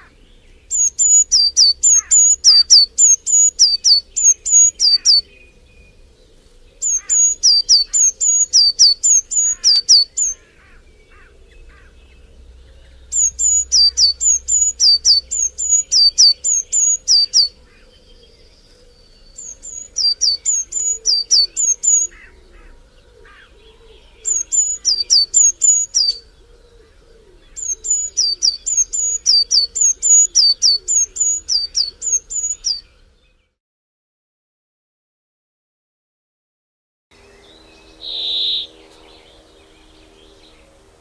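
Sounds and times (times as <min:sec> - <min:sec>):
faint bird chirping: 0:00.0 - 0:33.6, 0:37.2 - 0:41.0
songbird singing: 0:00.0 - 0:33.6, 0:37.1 - 0:41.0.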